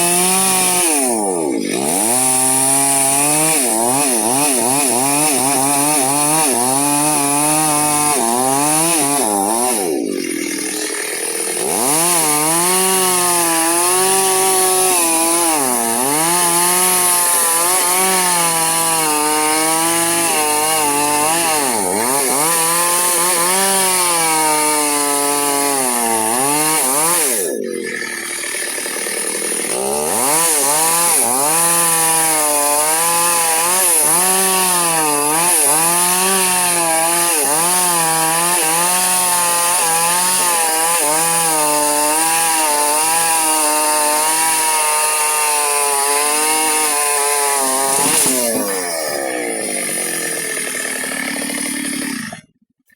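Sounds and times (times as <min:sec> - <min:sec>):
chainsaw cutting through log: 0:00.0 - 0:52.9.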